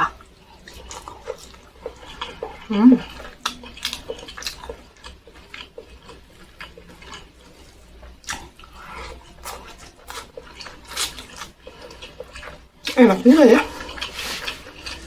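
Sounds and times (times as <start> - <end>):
person chewing with wet smacks: 0.0 - 15.0.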